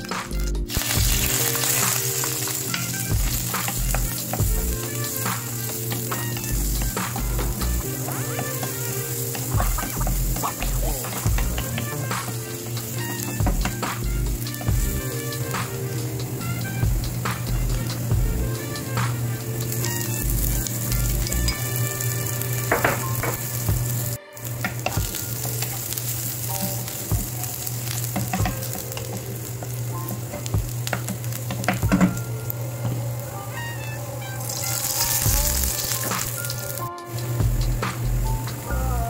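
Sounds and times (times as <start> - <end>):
onions sizzling in oil: 0.0 - 39.0.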